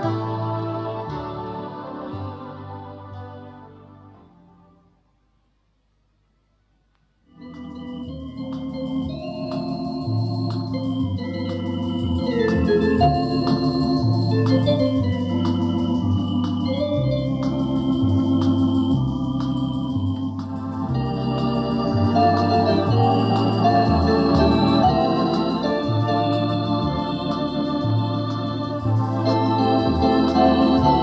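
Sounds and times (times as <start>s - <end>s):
electronic organ playing: 0.0s - 4.5s, 7.3s - 31.0s.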